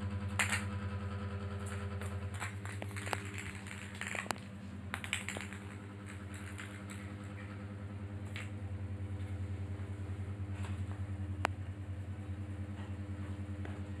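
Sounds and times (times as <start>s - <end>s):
low pulsing mechanical hum: 0.0s - 14.0s.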